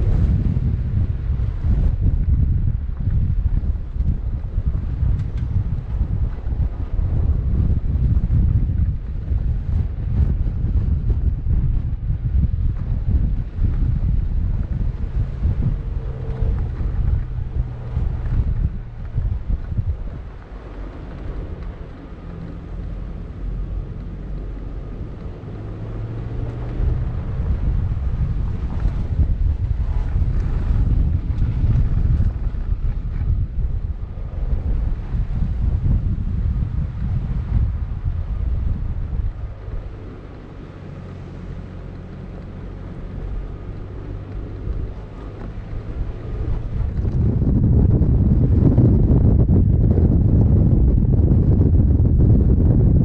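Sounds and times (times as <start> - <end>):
tyres rumbling on dirt: 0.0 - 53.0
vehicle engine humming: 0.0 - 53.0
wind buffeting microphone: 0.0 - 53.0.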